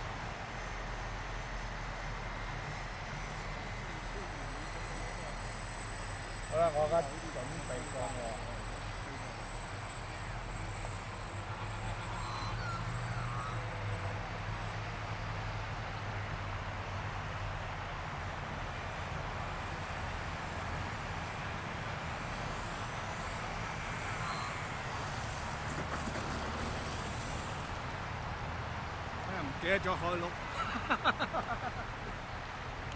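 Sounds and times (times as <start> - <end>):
model aircraft motors whining: 0.0 - 30.9.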